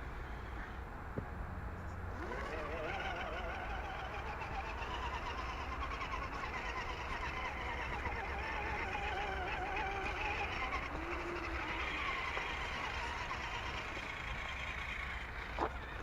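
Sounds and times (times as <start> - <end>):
electric motor and gearbox whining: 1.8 - 16.0.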